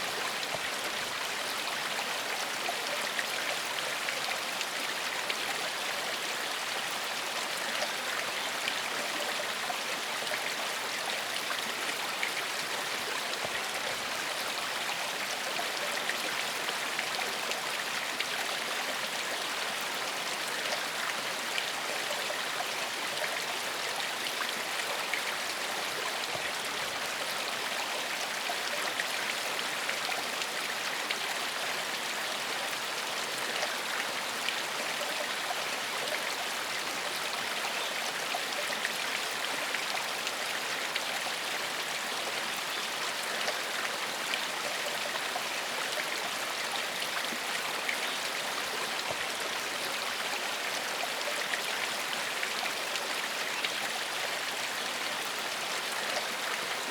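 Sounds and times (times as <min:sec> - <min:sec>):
stream flowing over rocks: 0:00.0 - 0:56.9.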